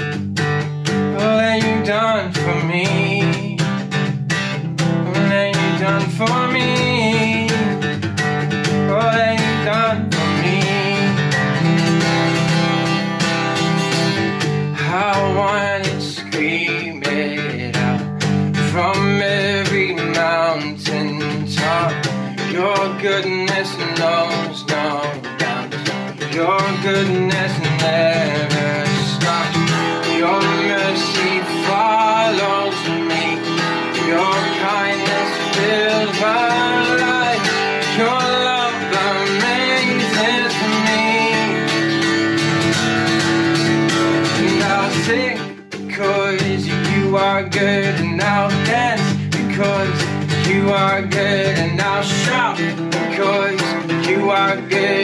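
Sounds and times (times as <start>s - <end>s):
acoustic guitar strumming: 0.0s - 55.0s
man singing: 1.0s - 4.1s, 5.0s - 13.0s, 14.1s - 55.0s.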